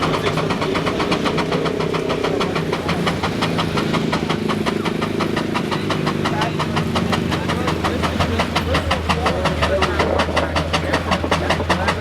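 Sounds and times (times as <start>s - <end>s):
engine running with rapid beat: 0.0s - 12.0s.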